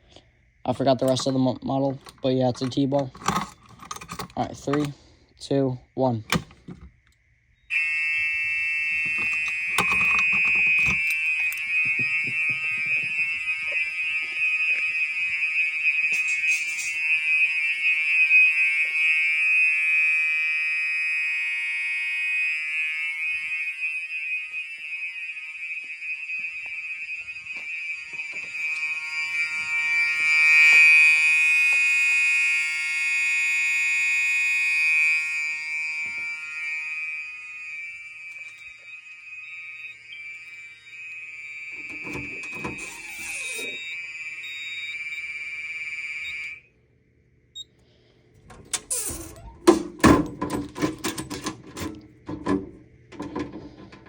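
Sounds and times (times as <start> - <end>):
fire alarm horn tone: 0.0 - 5.0, 7.5 - 46.8, 48.6 - 52.0.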